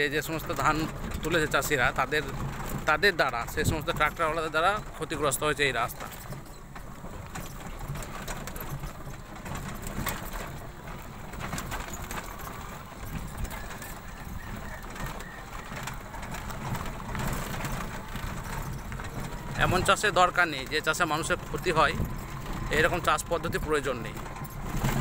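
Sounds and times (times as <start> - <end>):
knocks and rattles from bumps: 0.0 - 25.0
motorbike engine running: 0.0 - 25.0.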